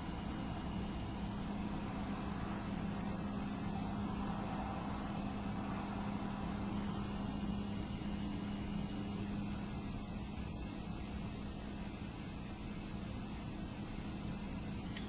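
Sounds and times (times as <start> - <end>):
hard drive whine: 0.0 - 15.0
room hiss: 0.0 - 15.0.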